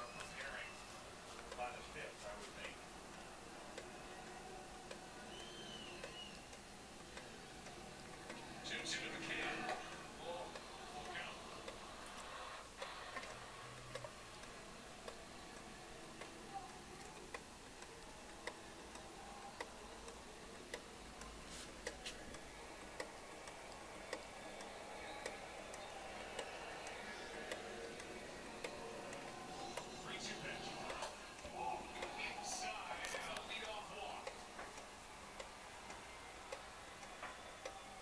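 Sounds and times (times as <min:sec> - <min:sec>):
wall clock ticking: 0:00.0 - 0:38.0.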